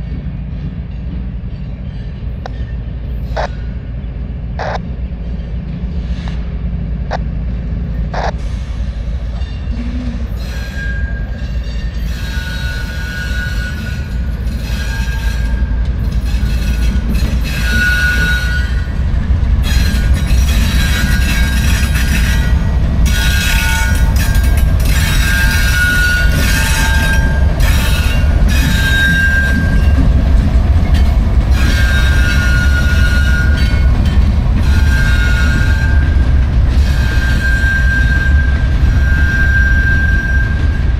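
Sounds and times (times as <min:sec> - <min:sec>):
train wheel squeals: 0:00.0 - 0:06.6, 0:07.8 - 0:19.0, 0:19.6 - 0:40.9
freight train rumbling past: 0:00.0 - 0:40.9.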